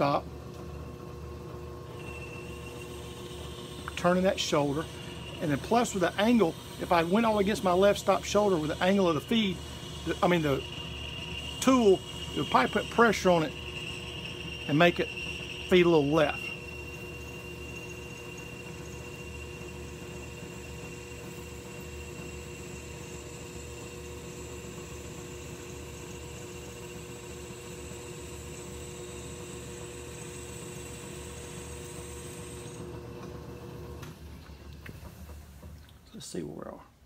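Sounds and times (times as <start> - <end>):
lathe high whine: 0.0 - 35.4
metal lathe humming: 0.0 - 35.4.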